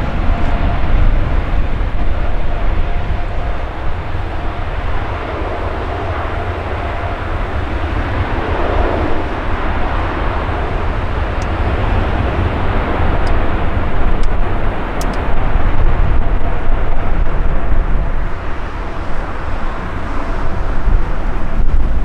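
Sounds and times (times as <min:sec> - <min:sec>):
jet engines running: 0:00.0 - 0:22.0
wind buffeting microphone: 0:00.0 - 0:22.0.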